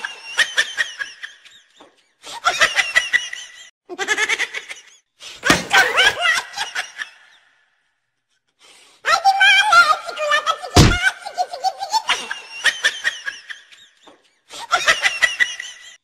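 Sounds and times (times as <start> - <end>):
people laughing: 0.0 - 7.6, 10.1 - 16.0.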